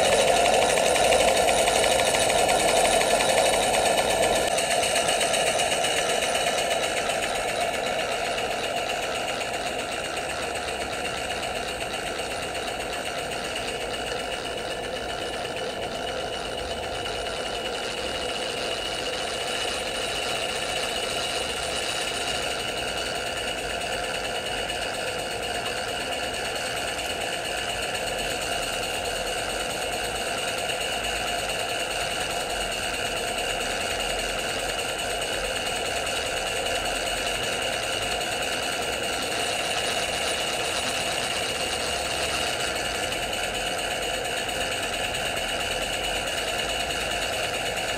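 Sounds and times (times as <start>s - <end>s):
model steam engine running: 0.0s - 47.9s.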